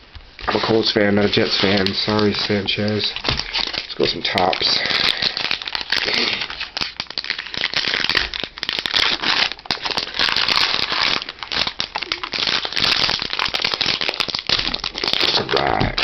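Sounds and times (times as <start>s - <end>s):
foil wrapper crinkling and tearing: 0.4s - 16.0s.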